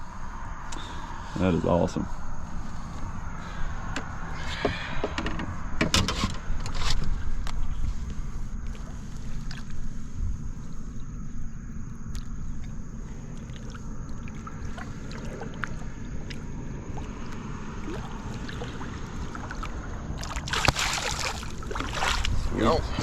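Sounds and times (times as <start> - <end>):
boat engine low rumble: 0.0 - 23.0.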